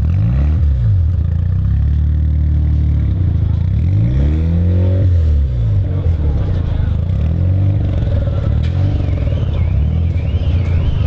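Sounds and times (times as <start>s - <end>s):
sports car engine idling and revving: 0.0s - 11.0s.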